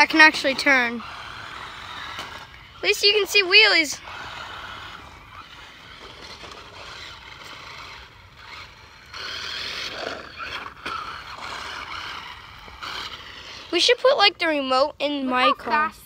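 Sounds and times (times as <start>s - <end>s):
toy car electric motor whirring: 0.0s - 14.7s
wheels scraping over ground: 0.0s - 16.0s.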